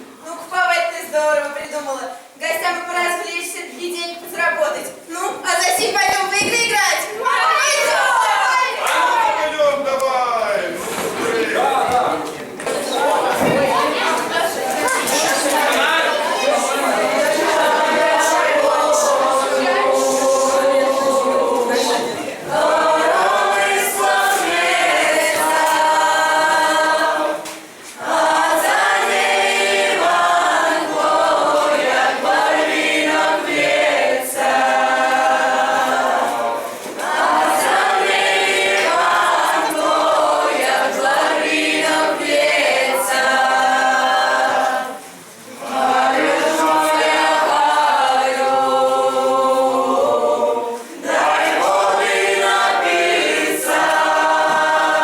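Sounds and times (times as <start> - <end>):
group singing unaccompanied: 7.2 - 55.0.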